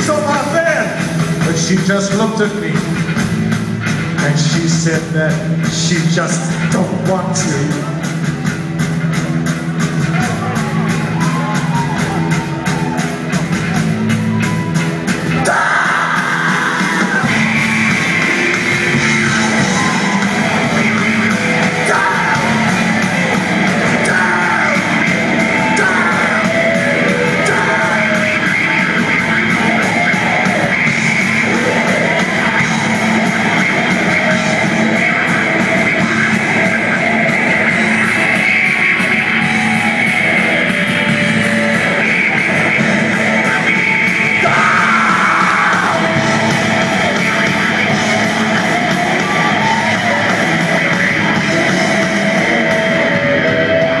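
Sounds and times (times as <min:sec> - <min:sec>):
bass guitar: 0:00.0 - 0:54.0
distorted electric guitar: 0:00.0 - 0:54.0
drums: 0:00.0 - 0:54.0.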